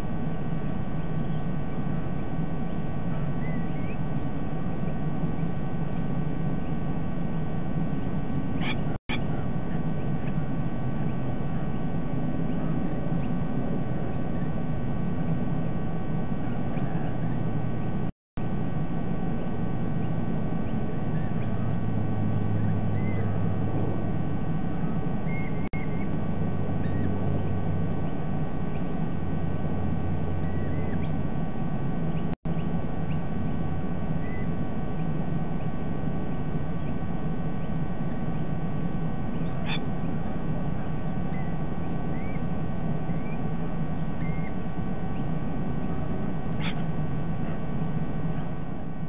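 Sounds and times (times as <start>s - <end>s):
low hum and hiss: 0.0s - 49.0s
faint bird chirps: 1.0s - 6.9s, 8.0s - 14.7s, 15.5s - 18.0s, 19.2s - 23.4s, 24.7s - 29.0s, 30.3s - 31.3s, 32.1s - 33.4s, 34.1s - 38.4s, 39.3s - 48.6s.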